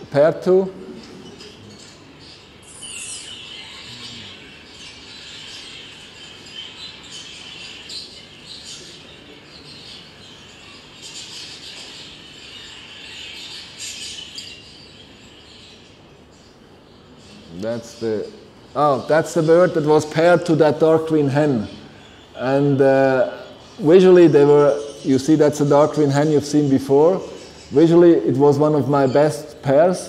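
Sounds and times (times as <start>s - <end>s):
budgerigars chirping over speakers: 0.0s - 30.0s.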